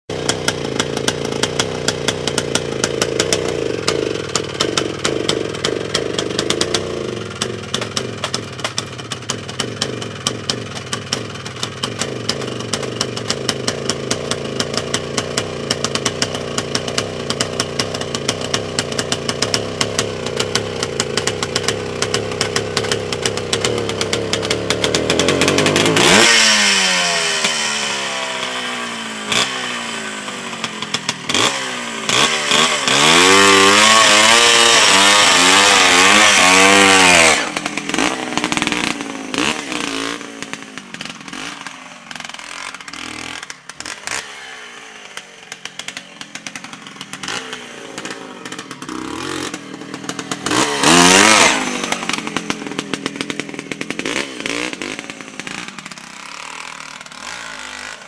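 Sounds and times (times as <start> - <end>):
motocross engine idling and revving: 0.0 - 58.0.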